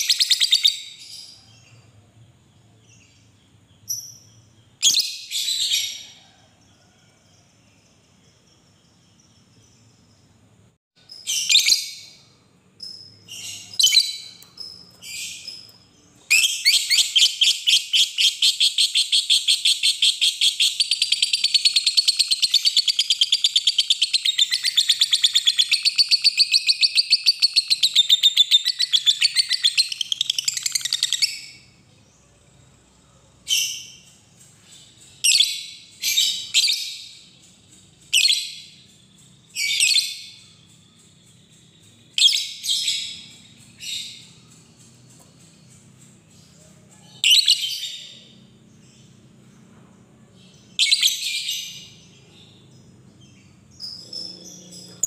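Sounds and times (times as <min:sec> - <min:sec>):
bird chirps: 0:00.0 - 0:55.0.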